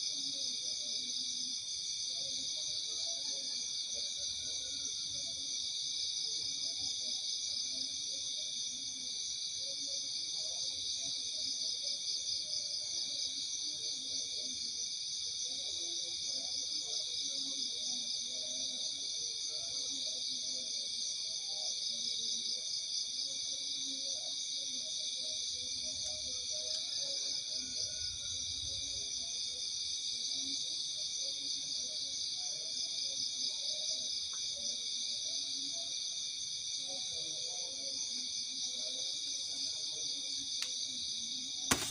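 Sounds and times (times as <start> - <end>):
faint low insect calls: 0.0 - 41.9.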